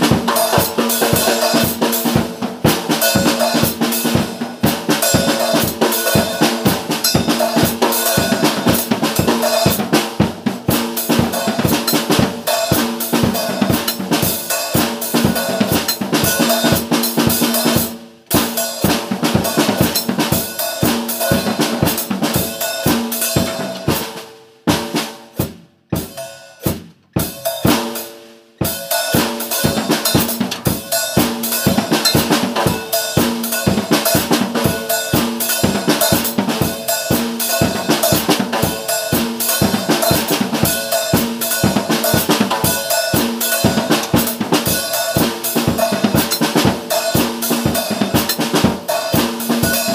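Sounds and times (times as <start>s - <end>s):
drum kit playing fast beat: 0.0s - 49.9s.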